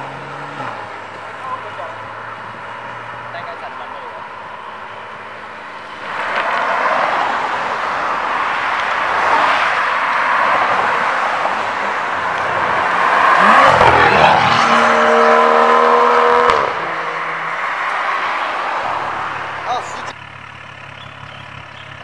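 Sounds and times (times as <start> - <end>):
car accelerating with loud exhaust: 0.0 - 22.0.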